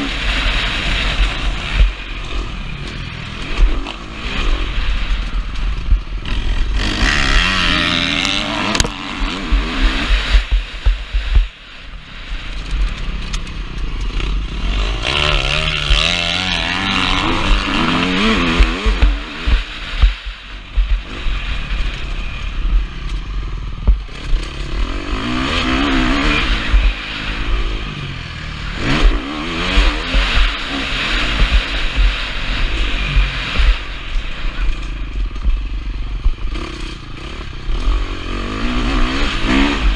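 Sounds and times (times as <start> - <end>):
motocross bike engine revving: 0.0 - 39.9
wind rumble on microphone: 0.0 - 39.9.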